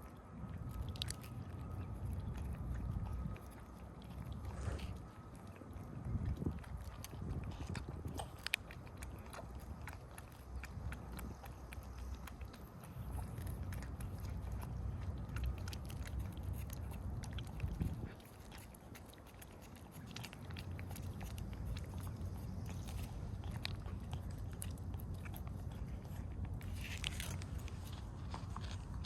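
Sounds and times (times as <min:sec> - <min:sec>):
cats licking and smacking: 0:00.0 - 0:29.0
steady low rumble: 0:00.0 - 0:29.0.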